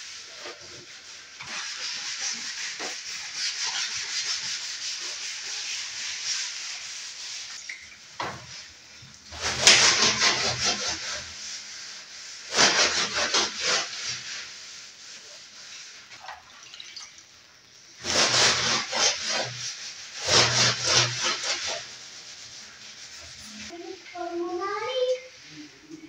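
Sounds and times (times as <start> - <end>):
cloth scrubbing wooden slats: 0.1 - 8.7, 9.3 - 16.4, 18.0 - 23.6.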